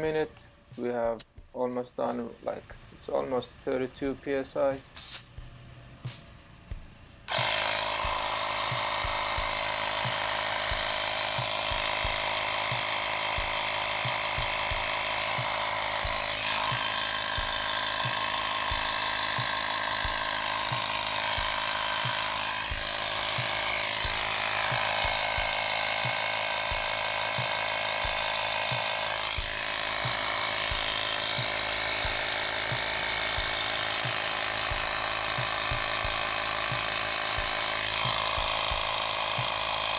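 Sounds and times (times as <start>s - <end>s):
tire compressor buzzing rattle: 3.7s - 39.9s.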